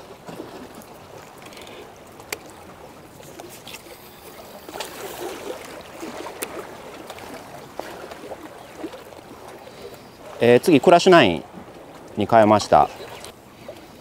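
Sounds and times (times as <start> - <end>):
water lapping at shoreline: 0.0 - 14.0.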